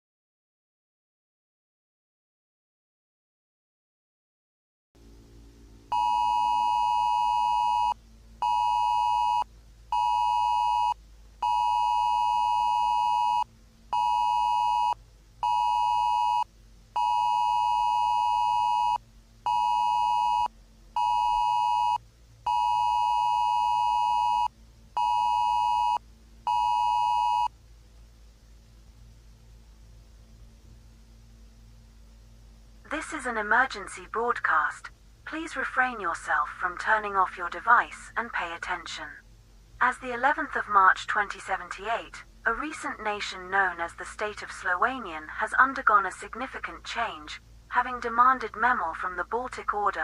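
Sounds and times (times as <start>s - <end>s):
low steady hum: 5.0s - 50.0s.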